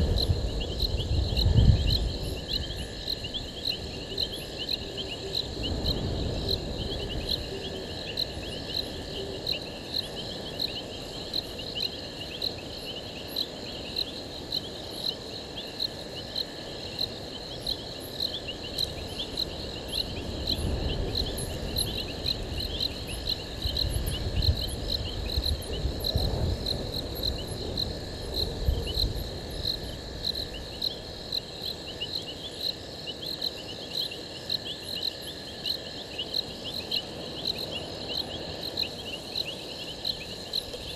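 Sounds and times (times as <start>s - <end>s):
crickets chirping: 0.0s - 40.9s
insect trill: 0.0s - 40.9s.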